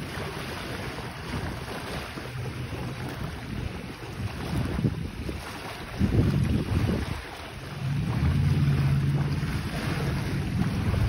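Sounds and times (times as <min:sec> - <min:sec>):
small waves lapping: 0:00.0 - 0:11.0
wind buffeting microphone: 0:00.0 - 0:11.0.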